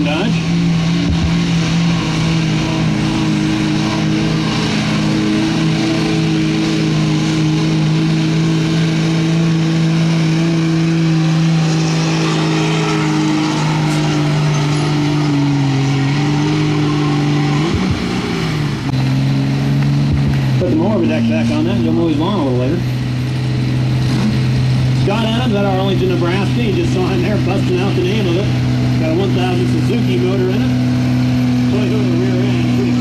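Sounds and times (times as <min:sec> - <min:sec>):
pickup engine at high revs: 0:00.0 - 0:33.0.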